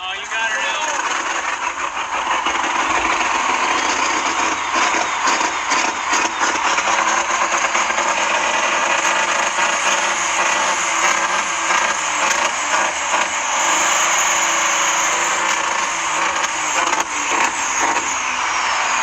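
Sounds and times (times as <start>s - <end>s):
truck engine running rough: 0.0s - 19.0s.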